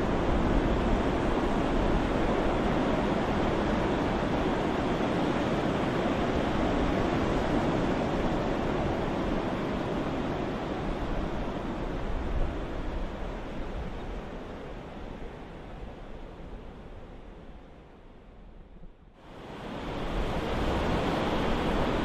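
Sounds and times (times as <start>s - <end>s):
ocean waves surf: 0.0s - 18.6s, 19.2s - 22.0s.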